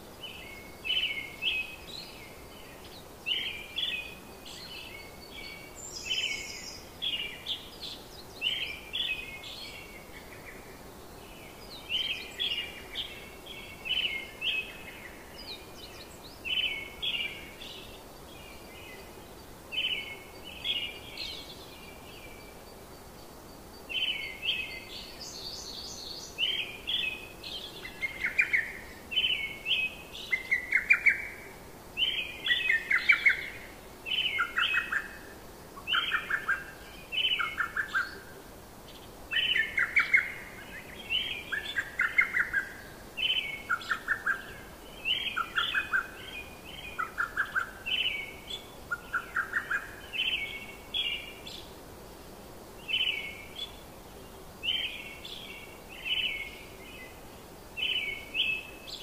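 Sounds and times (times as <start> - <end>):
faint background hiss: 0.0 - 59.0
songbirds chirping: 0.0 - 59.0.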